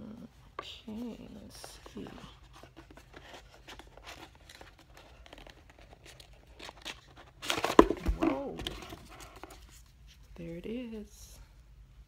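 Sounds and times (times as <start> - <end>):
cardboard packaging rustling: 0.7 - 10.4.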